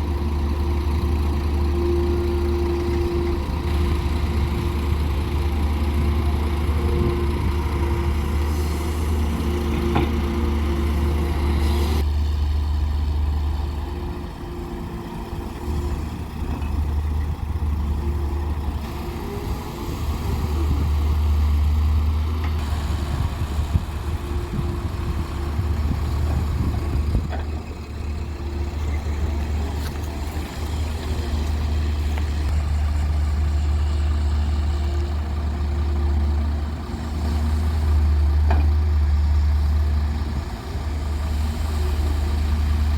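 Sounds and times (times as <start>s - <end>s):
heavy diesel machinery droning: 0.0s - 42.9s.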